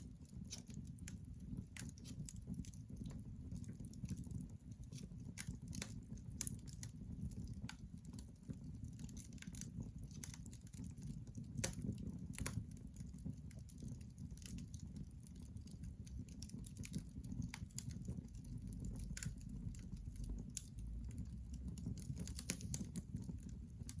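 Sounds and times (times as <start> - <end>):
burning logs crackling and popping: 0.0 - 24.0
fire low rumble: 0.0 - 24.0.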